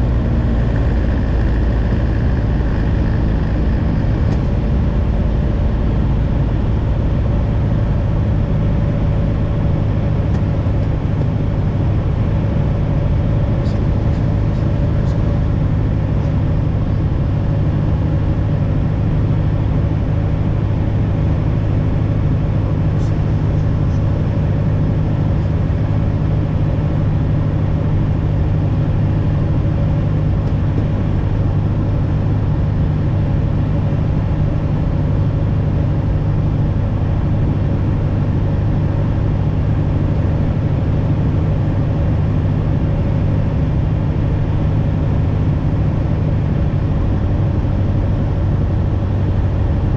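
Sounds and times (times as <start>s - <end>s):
light aircraft engine droning: 0.0s - 49.9s.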